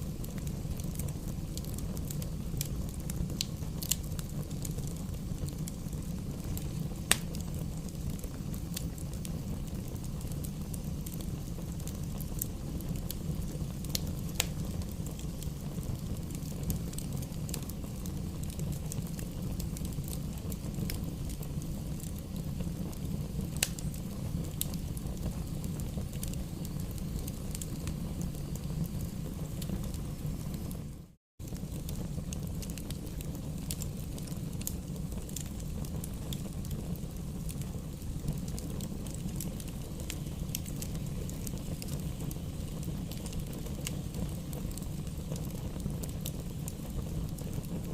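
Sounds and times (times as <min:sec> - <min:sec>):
fire crackling in fireplace: 0:00.0 - 0:47.9
sharp pops of fire: 0:00.0 - 0:47.9.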